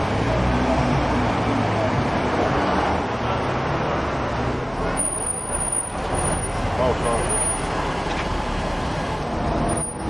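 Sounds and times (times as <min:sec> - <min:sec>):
car engines at low speed: 0:00.0 - 0:10.0.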